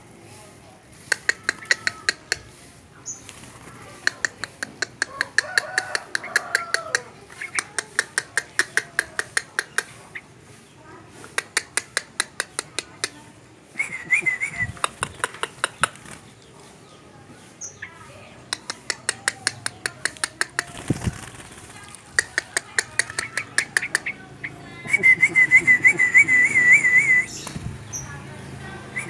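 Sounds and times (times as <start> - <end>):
bird sharp clicking calls: 1.0 - 16.6, 17.4 - 28.2.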